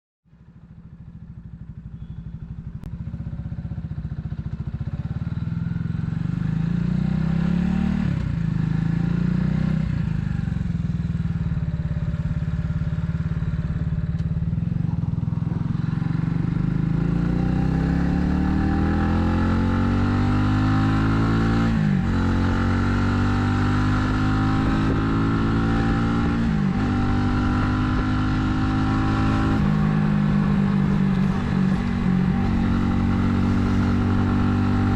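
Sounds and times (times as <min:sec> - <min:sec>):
motorcycle engine revving through gears: 0:01.0 - 0:34.9.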